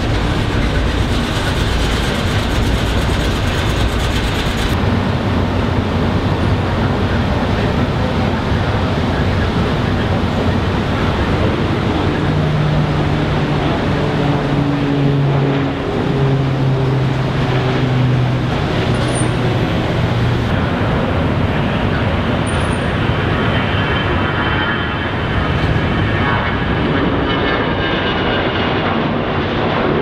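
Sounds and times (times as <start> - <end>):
jet engines roaring at takeoff: 0.0 - 30.0.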